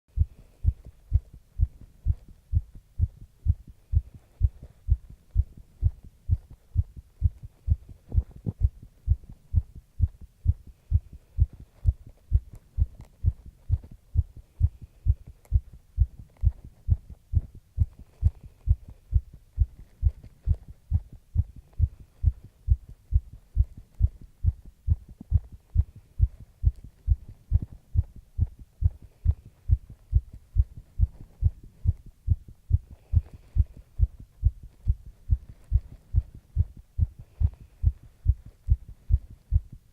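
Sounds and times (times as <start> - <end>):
heartbeat thumps: 0.1 - 39.9.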